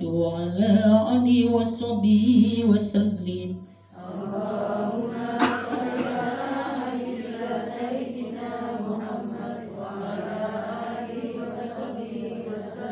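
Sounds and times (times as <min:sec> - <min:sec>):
women chanting a prayer in unison: 0:00.4 - 0:12.9.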